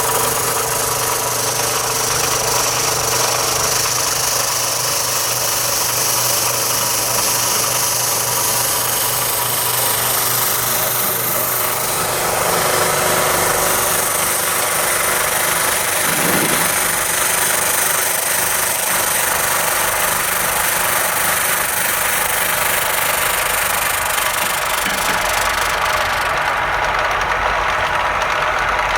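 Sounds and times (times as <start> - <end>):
electric sanding machine running: 0.0 - 28.9.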